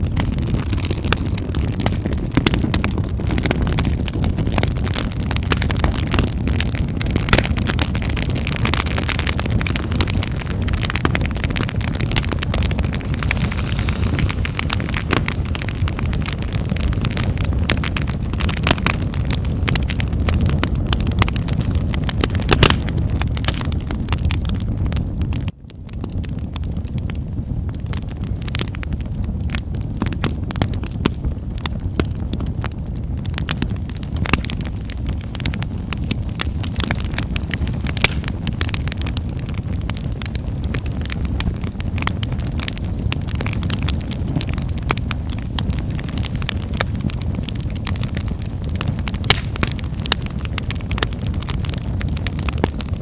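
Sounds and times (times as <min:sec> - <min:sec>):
fire crackling in fireplace: 0:00.0 - 0:53.0
sharp pops of fire: 0:00.1 - 0:25.4, 0:27.8 - 0:53.0.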